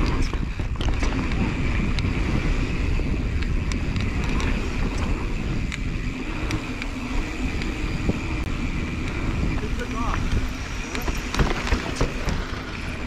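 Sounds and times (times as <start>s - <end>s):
bike clicks and rattles: 0.0s - 13.0s
bike tyres on dirt trail: 0.0s - 13.0s
wind buffeting microphone: 0.0s - 13.0s.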